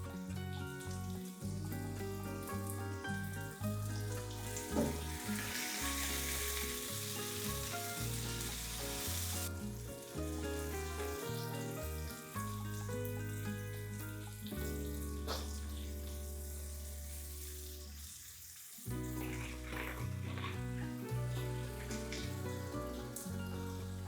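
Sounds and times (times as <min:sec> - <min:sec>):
background music with bass line: 0:00.0 - 0:17.2, 0:18.9 - 0:24.0
food sizzling in a frying pan: 0:00.0 - 0:24.0.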